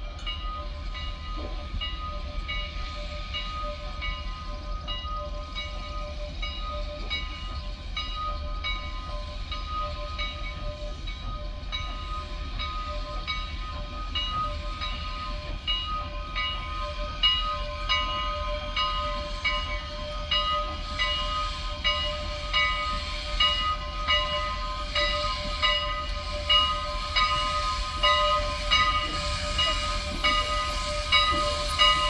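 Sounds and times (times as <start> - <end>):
locomotive bell ringing: 0.0 - 32.0
low rumble of moving train: 0.0 - 32.0.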